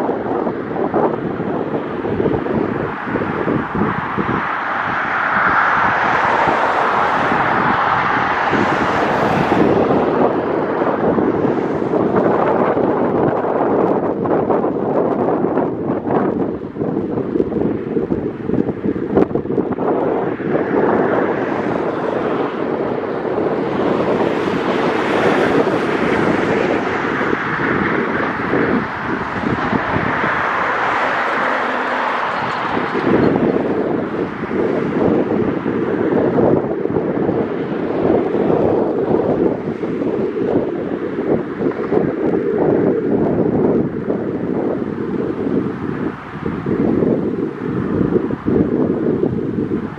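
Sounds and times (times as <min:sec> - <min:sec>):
road traffic noise: 0:00.0 - 0:49.9
wind buffeting microphone: 0:00.0 - 0:49.9.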